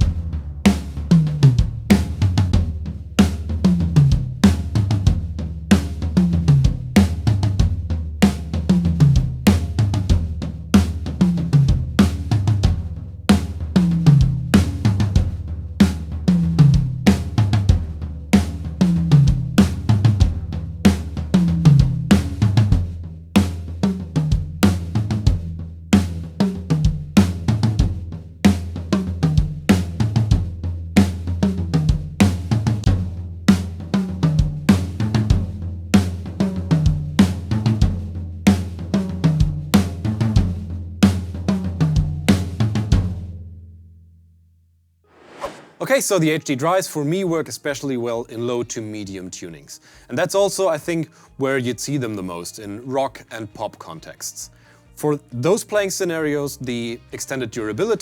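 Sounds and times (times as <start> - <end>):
acoustic drum kit groove: 0.0 - 43.4, 45.1 - 58.0.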